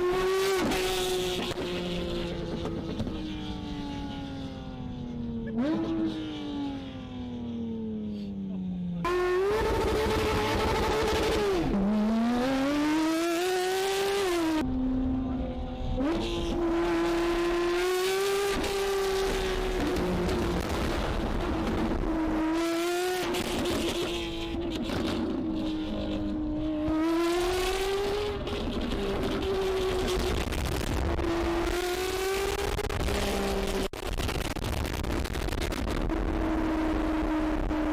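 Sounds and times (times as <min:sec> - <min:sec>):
car engine at high revs: 0:00.0 - 0:37.9.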